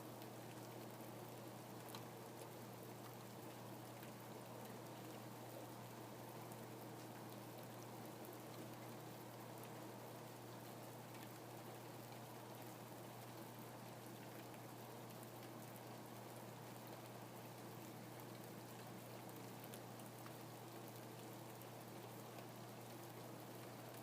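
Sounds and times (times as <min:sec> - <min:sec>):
faint steady rainfall: 0:00.0 - 0:24.0.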